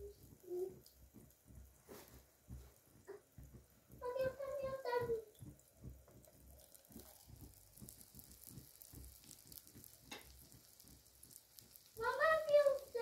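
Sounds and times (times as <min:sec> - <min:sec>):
eggs frying in a pan: 0:00.0 - 0:13.0.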